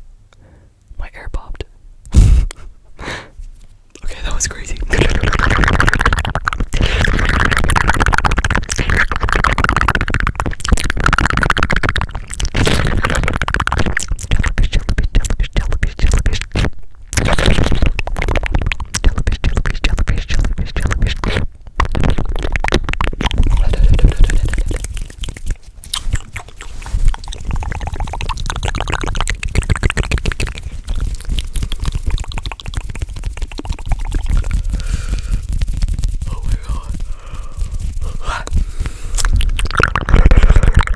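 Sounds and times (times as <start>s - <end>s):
hand sounds: 2.1s - 40.9s
mouth clicks and pops: 3.9s - 40.9s.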